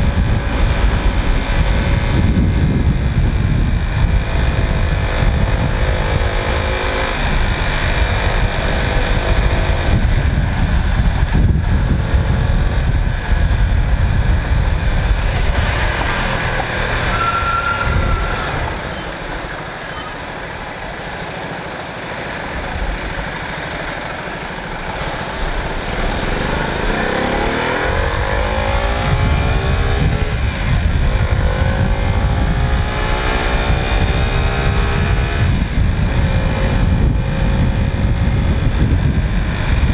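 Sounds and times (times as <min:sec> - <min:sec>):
motorcycle engine running: 0:00.0 - 0:17.2, 0:21.5 - 0:39.9
wind rumbling on microphone: 0:00.0 - 0:39.9.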